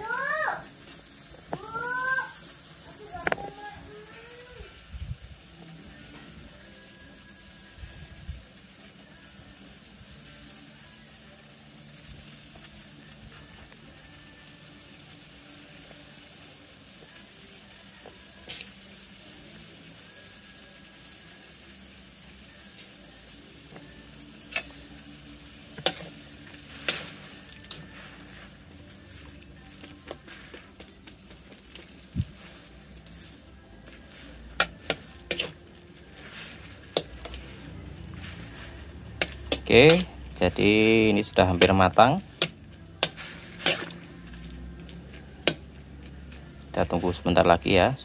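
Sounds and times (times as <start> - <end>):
water boiling in a wok: 0.0 - 48.0.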